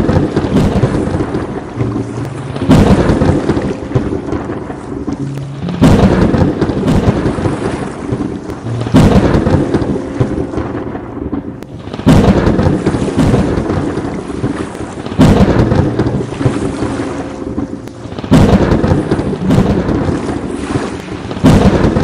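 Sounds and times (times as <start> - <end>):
steady rain: 0.0 - 22.0
thunderclaps: 0.0 - 22.0.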